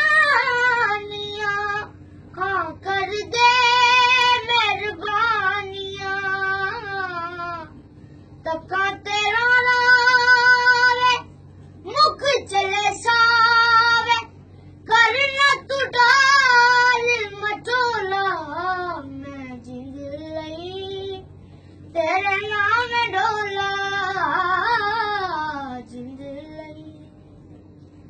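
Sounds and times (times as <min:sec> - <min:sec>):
boy singing unaccompanied: 0:00.0 - 0:07.8, 0:08.4 - 0:21.2, 0:22.0 - 0:27.0.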